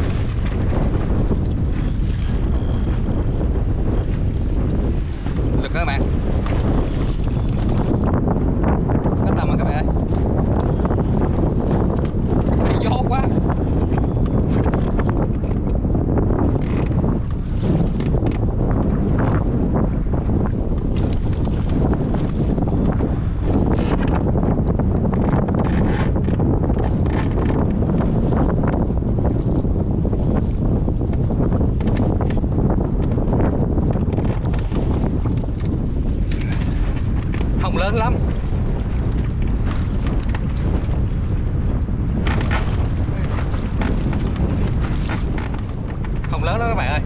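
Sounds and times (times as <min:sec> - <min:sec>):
waves slapping against boat: 0:00.0 - 0:47.0
wind buffeting microphone: 0:00.0 - 0:47.0.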